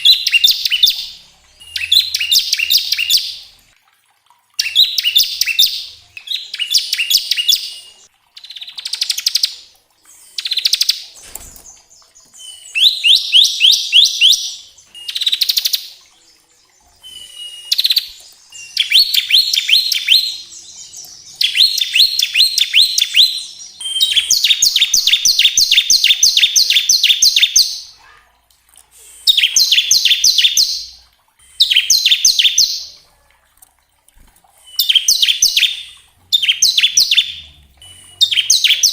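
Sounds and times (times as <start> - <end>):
bird singing fast trilled song: 0.0 - 3.6, 4.6 - 28.0, 29.2 - 33.0, 34.6 - 38.9.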